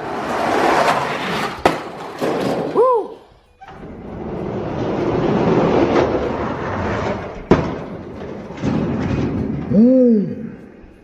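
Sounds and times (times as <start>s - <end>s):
toy trucks rolling with clatter: 0.0s - 11.0s
sharp clack: 0.9s - 10.8s.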